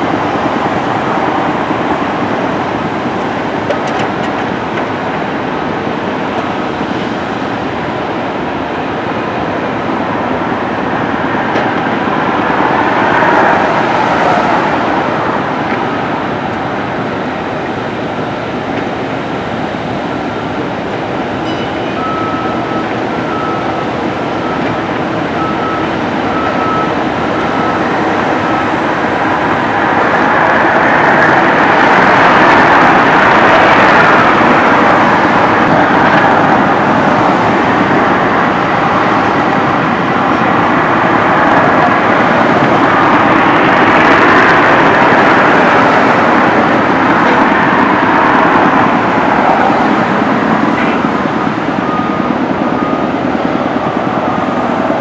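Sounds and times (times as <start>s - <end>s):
moving train running noise: 0.0s - 55.0s.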